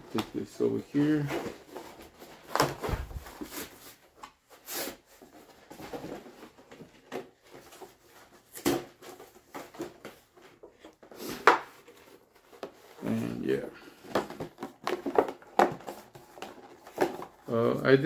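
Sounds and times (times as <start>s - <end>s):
plastic packaging rustling: 0.4s - 18.0s.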